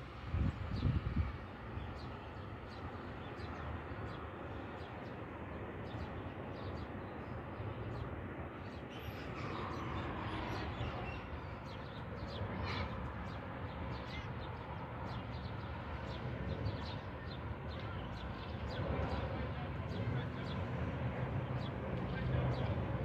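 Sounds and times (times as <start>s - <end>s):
low traffic hum: 0.0s - 23.0s.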